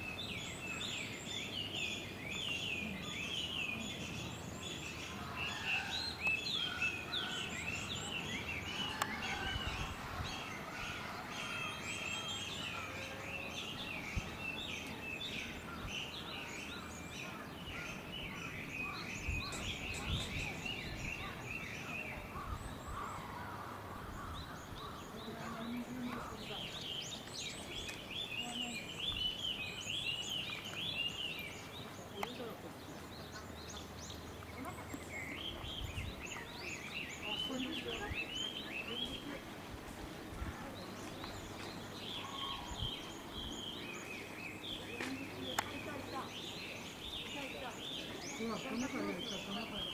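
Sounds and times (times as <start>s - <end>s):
low background noise: 0.0s - 49.9s
small birds chirping: 0.0s - 49.9s.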